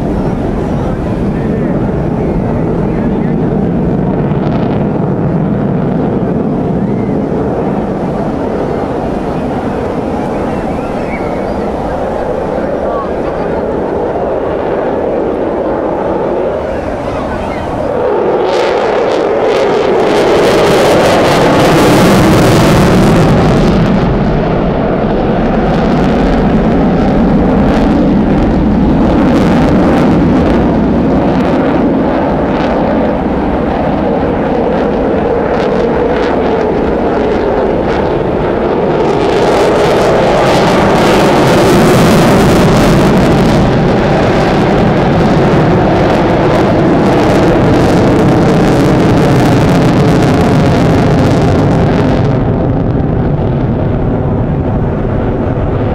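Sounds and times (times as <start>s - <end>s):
jet fighter engine: 0.0s - 55.9s.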